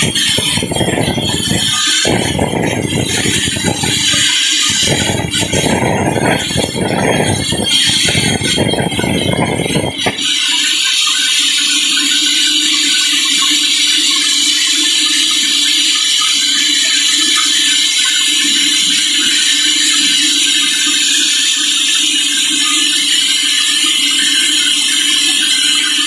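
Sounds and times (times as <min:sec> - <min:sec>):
sawmill saw cutting log: 0:00.0 - 0:26.0.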